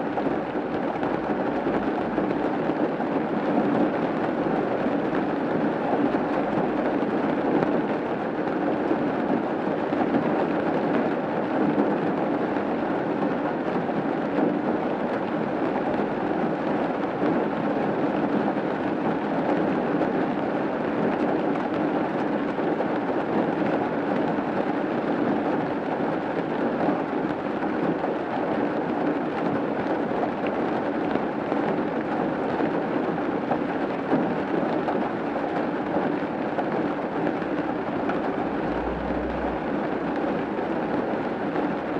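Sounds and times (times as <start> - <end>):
rain on a roof: 0.0 - 41.9.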